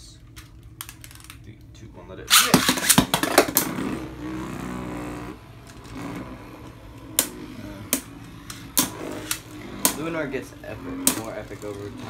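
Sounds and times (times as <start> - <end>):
spinning tops whirring: 2.3 - 12.0.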